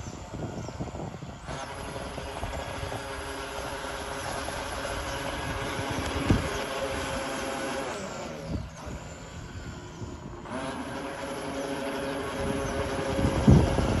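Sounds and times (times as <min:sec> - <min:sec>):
electric boat motor whine: 0:00.0 - 0:14.0.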